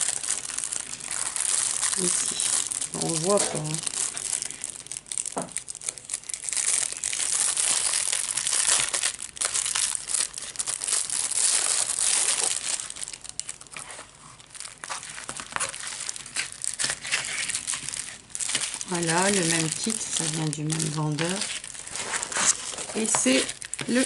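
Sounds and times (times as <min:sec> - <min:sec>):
plastic wrapping crinkling: 0:00.0 - 0:24.0.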